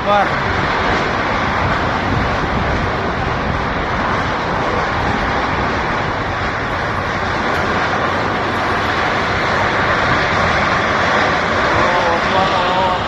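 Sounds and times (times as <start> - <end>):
tornado winds roaring: 0.0 - 13.0
wind rumbling on microphone: 0.0 - 13.0.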